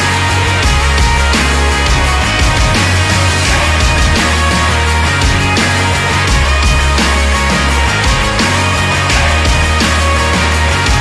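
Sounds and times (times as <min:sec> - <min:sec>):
music with heavy bass and steady beat: 0:00.0 - 0:11.0.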